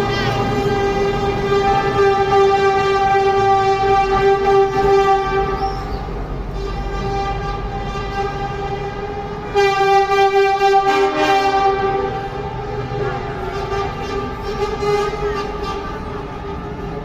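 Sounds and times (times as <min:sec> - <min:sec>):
lower horn: 0:00.0 - 0:17.0
truck air horn: 0:00.0 - 0:17.0.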